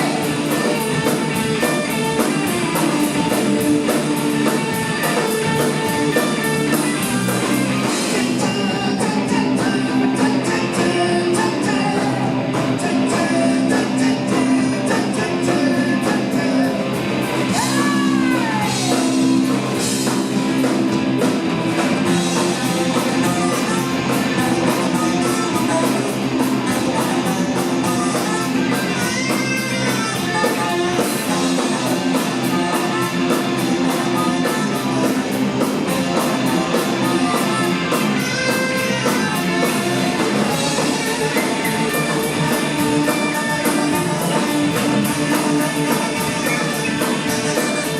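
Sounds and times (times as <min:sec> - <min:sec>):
bass guitar: 0:00.0 - 0:47.9
drum kit: 0:00.0 - 0:47.9
electric guitars: 0:00.0 - 0:47.9.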